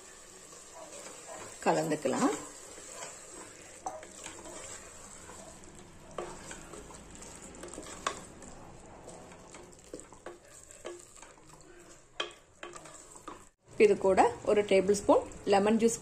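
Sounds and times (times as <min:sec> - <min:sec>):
wooden spatula stirring thick food: 0:00.0 - 0:15.7
food sizzling faintly: 0:00.0 - 0:16.0.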